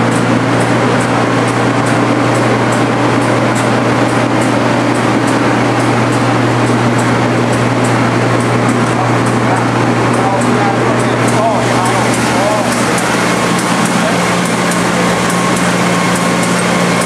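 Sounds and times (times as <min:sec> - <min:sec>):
electric machinery running: 0:00.0 - 0:17.0
low electric hum: 0:00.0 - 0:17.0.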